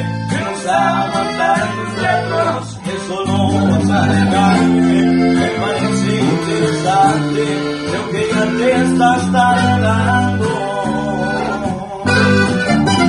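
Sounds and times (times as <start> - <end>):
acoustic guitar strumming: 0.0 - 13.0
guitar picking lead melody: 0.0 - 13.0.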